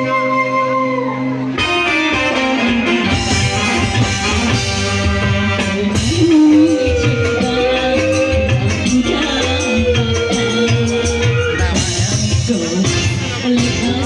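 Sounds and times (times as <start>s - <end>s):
live band with steady beat: 0.0s - 14.0s.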